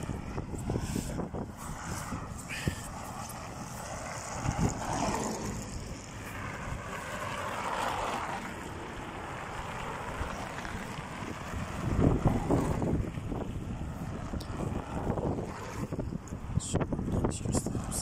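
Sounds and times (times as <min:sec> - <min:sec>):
cars passing: 0:00.0 - 0:18.0
wind buffeting microphone: 0:00.0 - 0:18.0.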